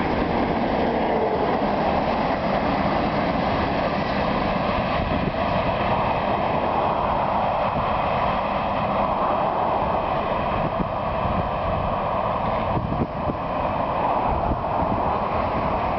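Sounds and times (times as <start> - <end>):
freight train rolling: 0.0 - 15.9.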